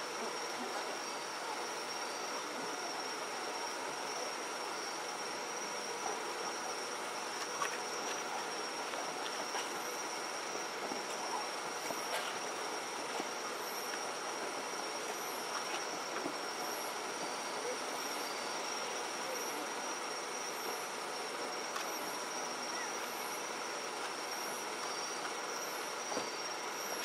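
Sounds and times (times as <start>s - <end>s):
night insects chirring: 0.0s - 27.0s.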